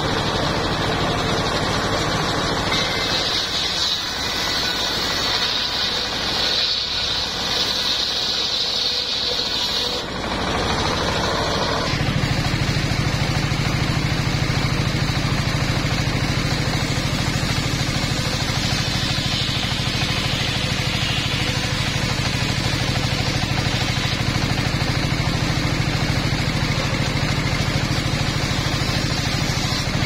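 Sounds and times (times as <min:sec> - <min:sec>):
diesel engine beating: 0:00.0 - 0:30.0
saw blade cutting wood: 0:00.0 - 0:30.0.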